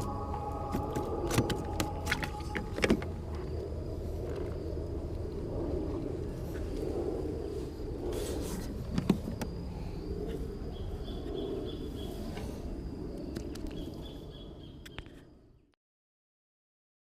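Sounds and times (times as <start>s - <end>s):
low rumble: 0.0s - 14.8s.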